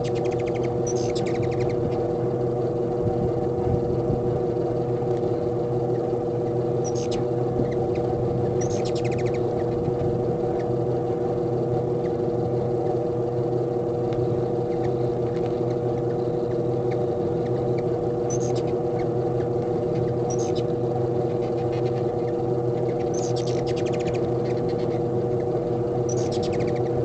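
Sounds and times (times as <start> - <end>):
hummingbird chip calls: 0.0 - 2.7, 4.8 - 27.0
steady low hum: 0.0 - 27.0.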